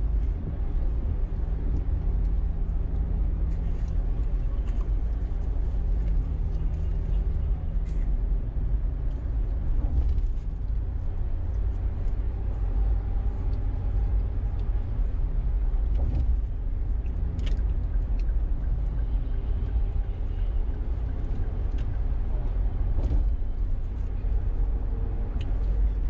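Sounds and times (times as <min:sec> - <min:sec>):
car interior road rumble: 0:00.0 - 0:26.0.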